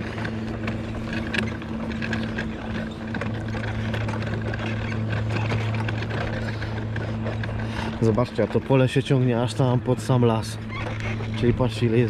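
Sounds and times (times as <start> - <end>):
light rattling over bumpy ground: 0.0 - 12.0
small vehicle motor hum: 0.0 - 12.0.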